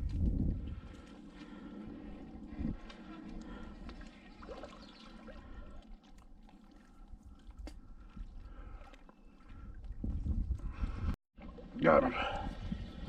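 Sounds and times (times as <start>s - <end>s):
faint water lapping: 0.7s - 13.0s.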